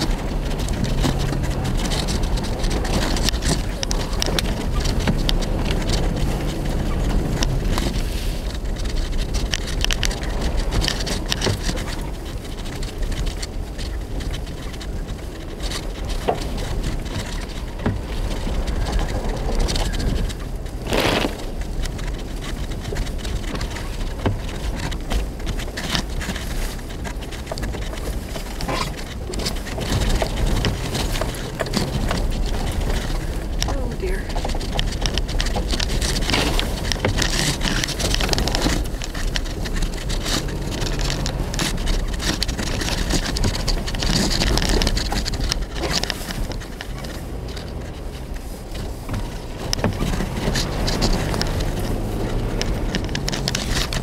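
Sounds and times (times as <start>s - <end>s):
crackling ticks: 0.0s - 54.0s
engine and road rumble: 0.0s - 54.0s.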